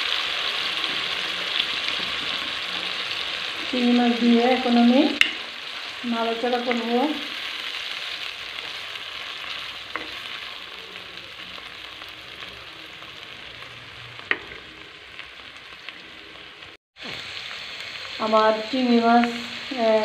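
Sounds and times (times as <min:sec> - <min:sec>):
prawns and onions sizzling in oil: 0:00.0 - 0:20.0.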